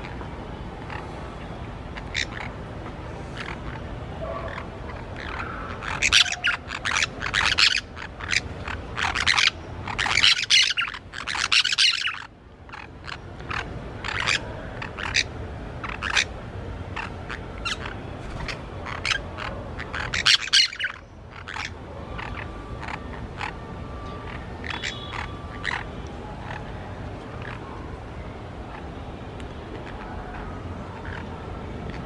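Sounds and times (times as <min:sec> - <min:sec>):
parakeets screeching: 0:00.0 - 0:01.2, 0:01.9 - 0:27.8, 0:29.8 - 0:32.0.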